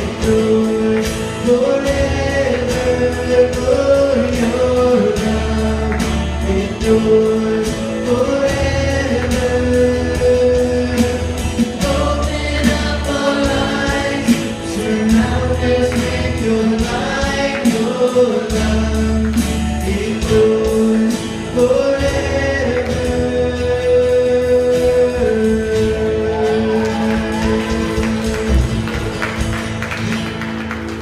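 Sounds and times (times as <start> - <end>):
voices singing: 0.0 - 29.0
steady drum beat: 0.0 - 31.0
worship band playing: 0.0 - 31.0.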